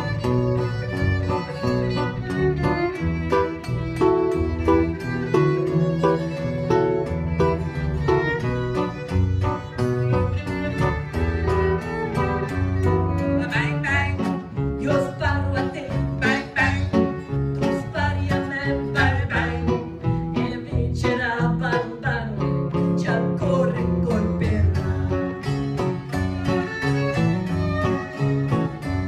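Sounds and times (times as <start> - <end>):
bowed violins: 0.0 - 20.6, 24.7 - 29.0
bass: 0.0 - 29.0
plucked guitar: 0.0 - 29.0.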